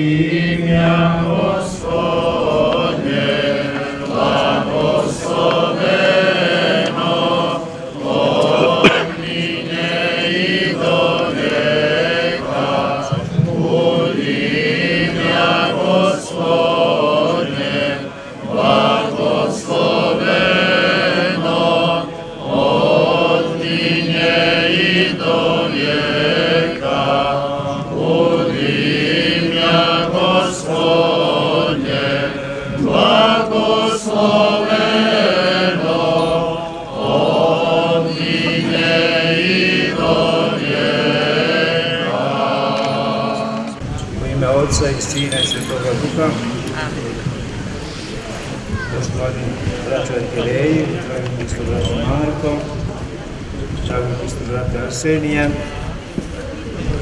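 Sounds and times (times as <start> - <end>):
men chanting a hymn: 0.0 - 53.1.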